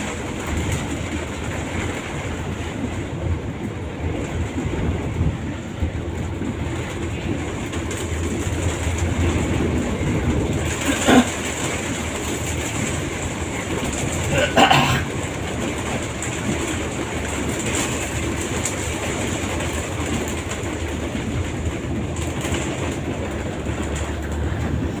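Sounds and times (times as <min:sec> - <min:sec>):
vehicle rumble and rattle: 0:00.0 - 0:25.0.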